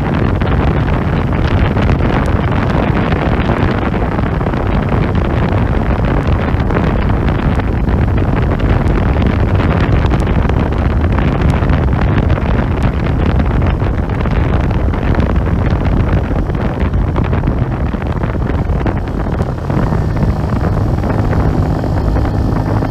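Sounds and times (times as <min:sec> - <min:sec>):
motorcycle engine riding: 0:00.0 - 0:22.9
wind noise on microphone: 0:00.0 - 0:22.9.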